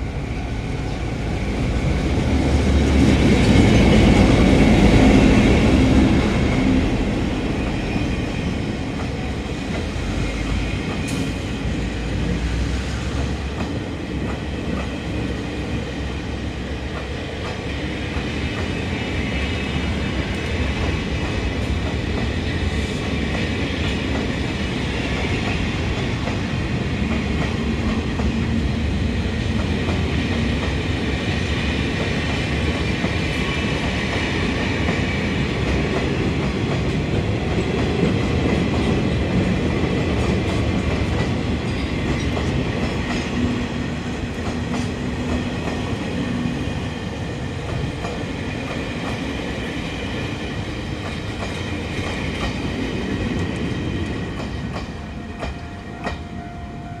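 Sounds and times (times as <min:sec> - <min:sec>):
freight train wheels rumbling: 0:00.0 - 0:57.0
clickety-clack over rail joints: 0:07.9 - 0:15.5, 0:16.8 - 0:56.2.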